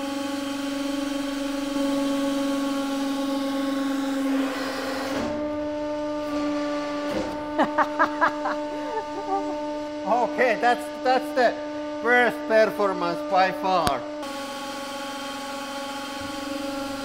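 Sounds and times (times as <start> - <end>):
hydraulic pump humming: 0.0 - 17.0.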